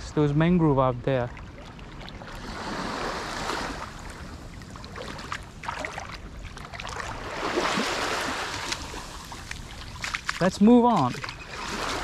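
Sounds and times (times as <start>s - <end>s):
small waves washing onto shore: 0.0s - 12.0s.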